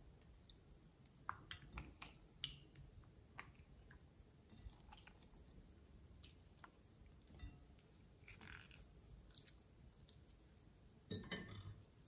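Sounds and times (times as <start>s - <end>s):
slime squelching: 0.3s - 10.7s.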